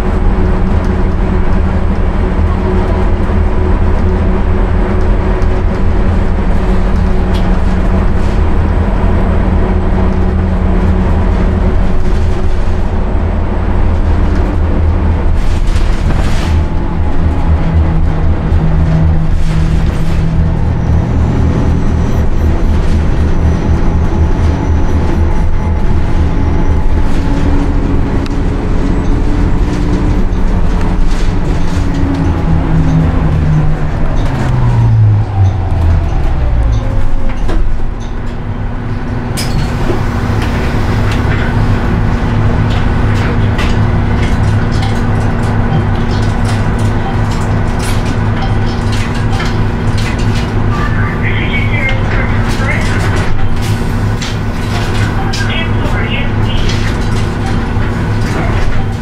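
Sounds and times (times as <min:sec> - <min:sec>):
bus engine drone from inside: 0:00.0 - 0:59.0.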